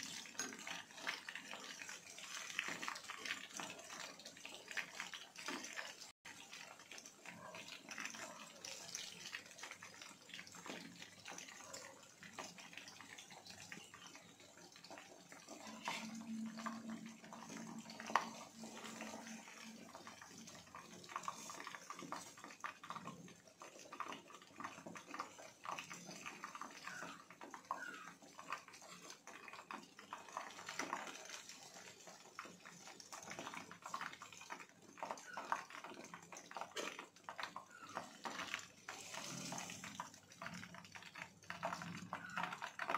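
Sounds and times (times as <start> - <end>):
deep-frying sizzle and crackles: 0.0 - 42.9.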